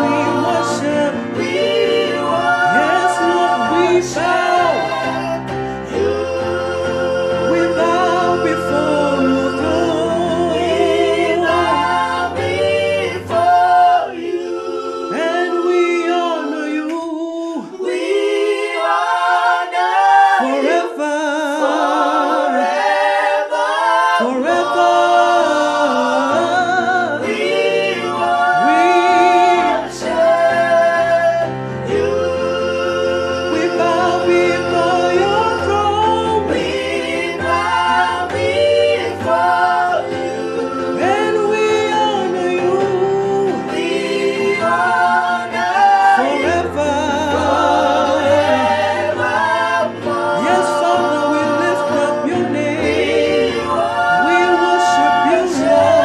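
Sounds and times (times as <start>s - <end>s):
electric keyboard: 0.0s - 56.0s
voices singing gospel song: 0.0s - 56.0s.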